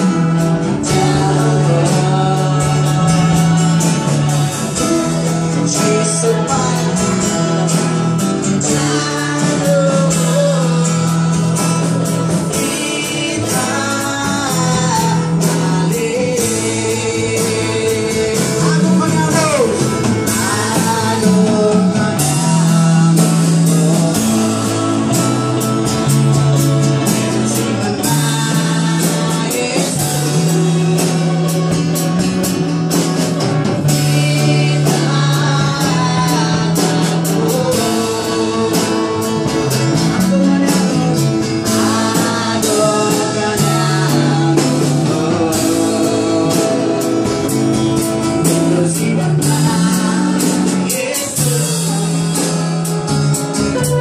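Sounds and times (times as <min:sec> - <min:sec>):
bass line: 0:00.0 - 0:54.0
drum kit: 0:00.0 - 0:54.0
voices singing worship song: 0:00.0 - 0:54.0.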